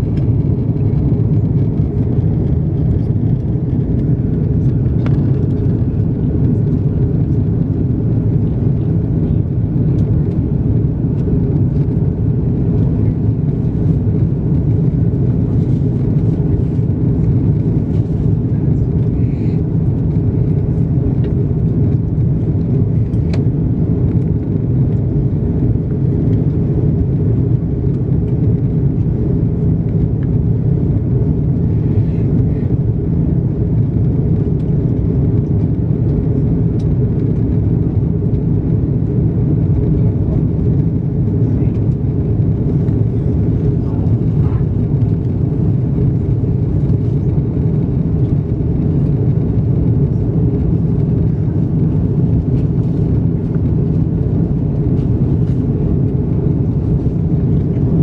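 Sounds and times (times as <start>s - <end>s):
aircraft cabin rumble: 0.0s - 58.0s.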